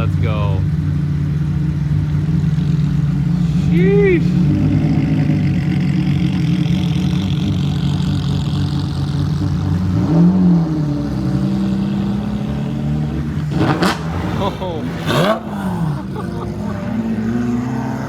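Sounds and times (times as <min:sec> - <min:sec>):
engine rev: 0:00.0 - 0:18.0
sports car engines pulling away: 0:00.0 - 0:18.0.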